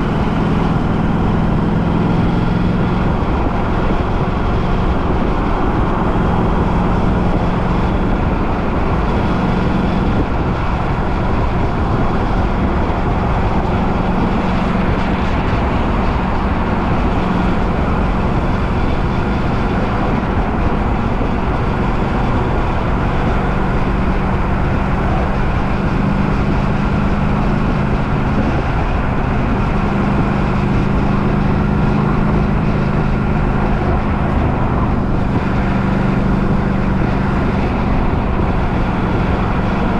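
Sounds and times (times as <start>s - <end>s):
road noise: 0.0s - 39.9s
vehicle engine hum: 0.0s - 39.9s.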